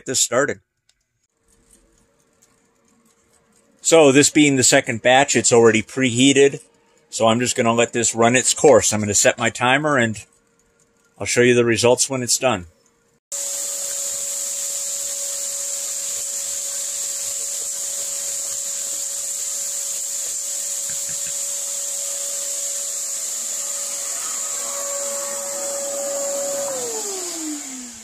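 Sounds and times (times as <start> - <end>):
shop vac whining: 2.2 - 28.0.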